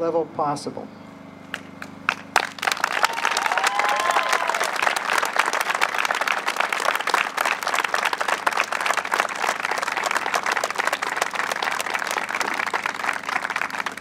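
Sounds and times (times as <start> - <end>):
crowd applauding: 1.5 - 14.0.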